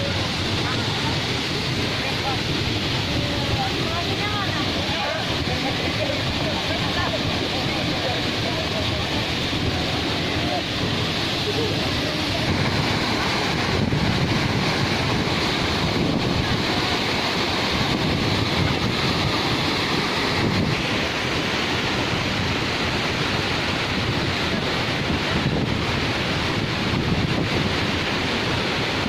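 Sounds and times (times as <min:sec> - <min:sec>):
waterfall rushing: 0:00.0 - 0:29.0
wind buffeting the microphone: 0:00.0 - 0:29.0.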